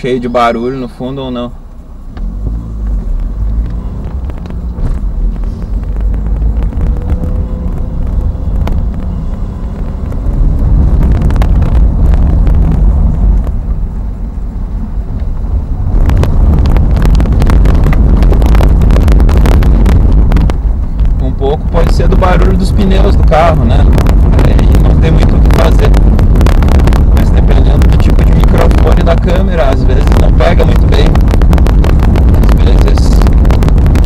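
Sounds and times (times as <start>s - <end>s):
tyre rumble on cobblestones: 2.3s - 14.4s, 15.1s - 34.0s.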